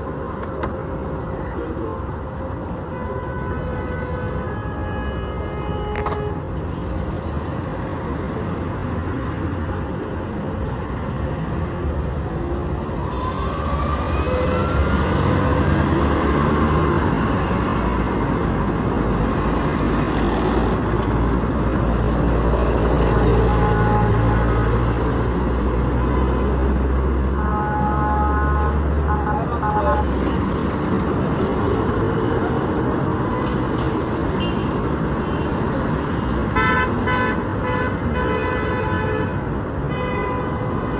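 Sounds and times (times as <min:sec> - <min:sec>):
road traffic engines: 0:00.0 - 0:40.9.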